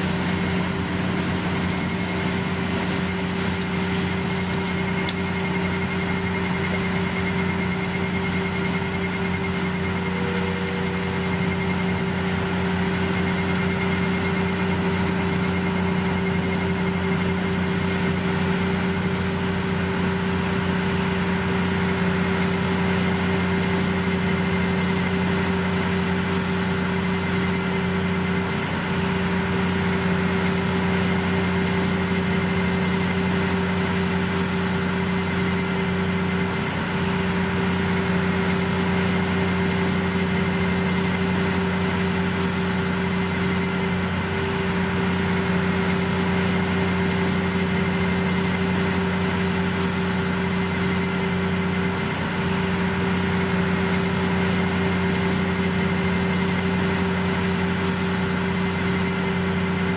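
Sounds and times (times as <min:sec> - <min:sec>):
construction machinery engines humming: 0:00.0 - 0:59.9.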